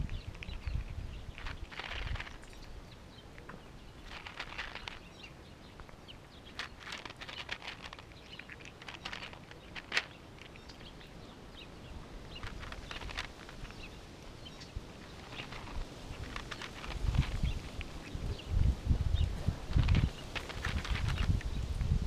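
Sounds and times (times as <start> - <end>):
cats chewing and licking: 0.0 - 18.5, 19.2 - 22.0.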